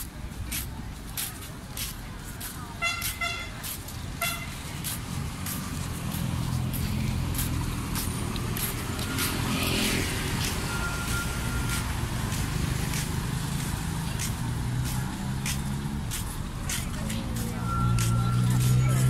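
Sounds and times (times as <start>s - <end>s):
car engines passing: 0.0s - 19.0s.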